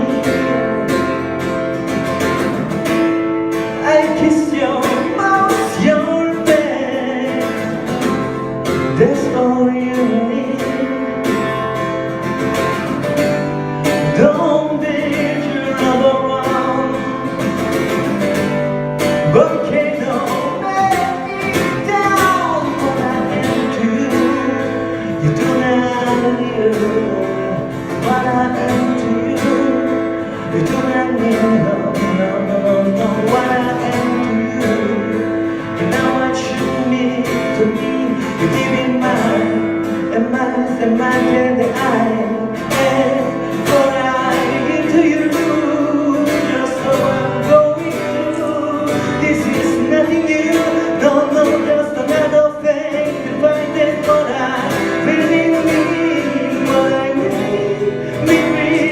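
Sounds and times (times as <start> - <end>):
acoustic guitar strumming: 0.0 - 58.9
person singing: 0.0 - 58.9.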